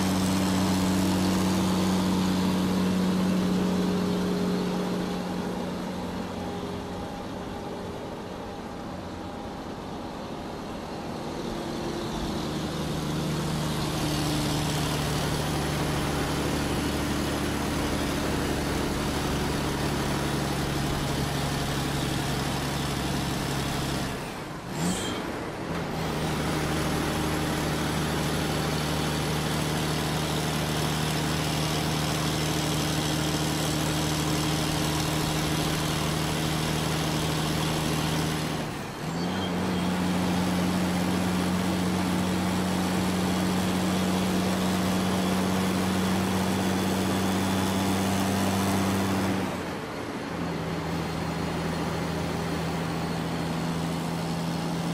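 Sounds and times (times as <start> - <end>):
engine idling: 0.0 - 54.9.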